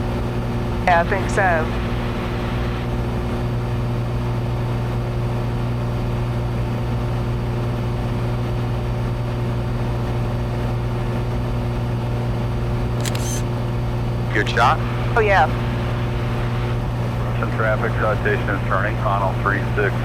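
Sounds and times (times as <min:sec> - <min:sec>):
airplane engine and propeller droning: 0:00.0 - 0:20.0.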